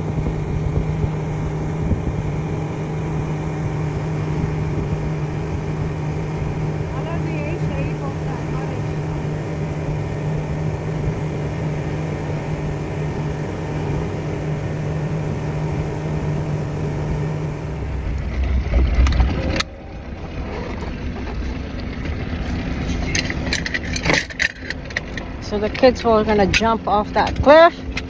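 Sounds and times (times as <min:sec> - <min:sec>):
motorboat engine running: 0:00.0 - 0:28.0
water noise: 0:00.0 - 0:28.0
wind: 0:00.0 - 0:28.0.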